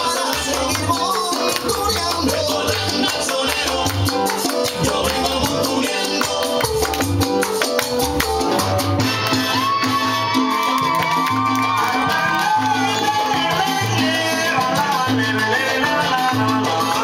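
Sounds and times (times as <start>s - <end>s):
dance music with percussion and bass: 0.0s - 17.0s.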